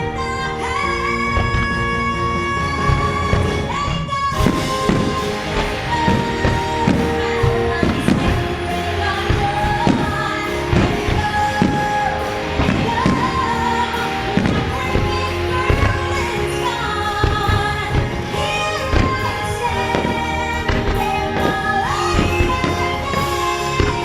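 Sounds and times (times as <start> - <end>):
music with singing voice: 0.0 - 24.0.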